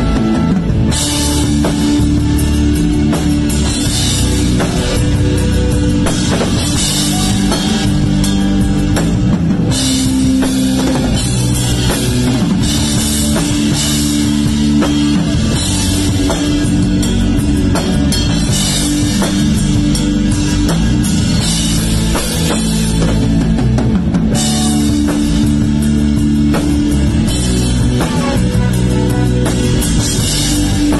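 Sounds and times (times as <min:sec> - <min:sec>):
drum beat: 0:00.0 - 0:30.9
rock band playing: 0:00.0 - 0:30.9.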